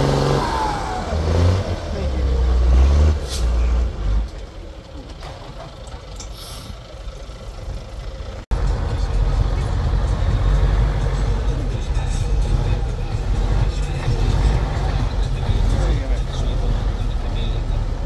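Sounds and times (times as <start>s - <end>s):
truck engine rumbling: 0.0s - 18.0s
truck engine under load: 0.0s - 18.0s.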